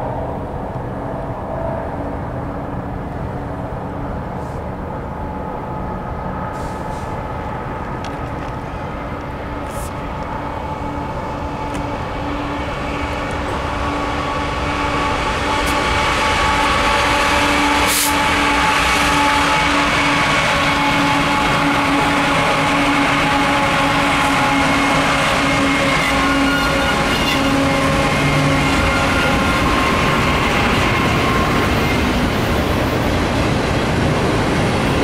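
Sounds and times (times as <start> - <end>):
diesel locomotives passing: 0.0 - 35.0.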